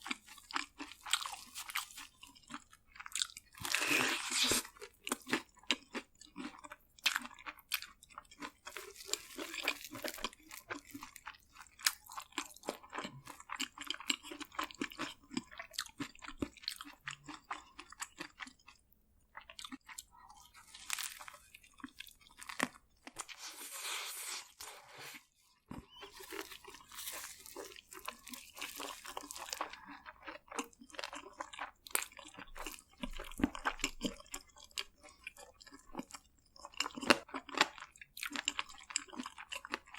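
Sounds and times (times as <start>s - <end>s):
wet chewing: 0.0s - 23.8s, 25.7s - 39.9s
crunching fried food: 0.0s - 39.9s.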